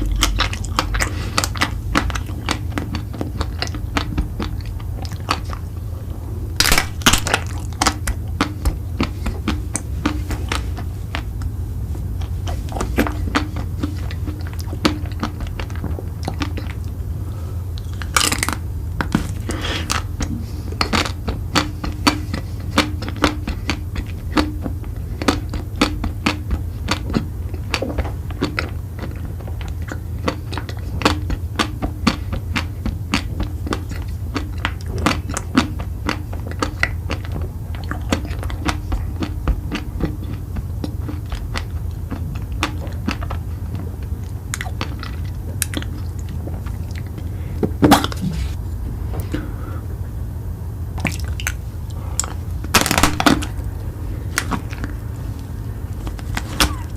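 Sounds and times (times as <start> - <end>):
chewing crunchy food: 0.0 - 49.8, 50.8 - 56.9
steady low hum: 0.0 - 56.9.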